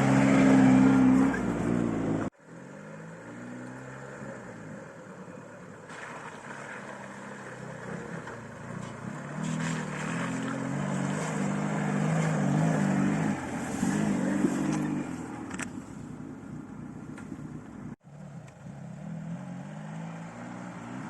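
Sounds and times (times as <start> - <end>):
tyre and ground noise: 0.0 - 21.0.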